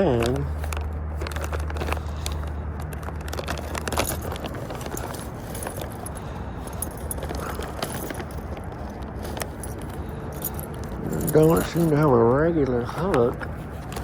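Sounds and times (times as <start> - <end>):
fishing tackle rattling: 0.0 - 14.0.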